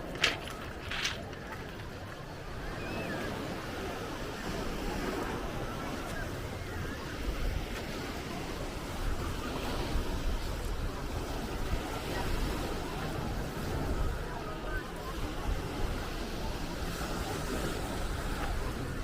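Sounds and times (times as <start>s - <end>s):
sea surf washing on shore: 0.0s - 19.0s.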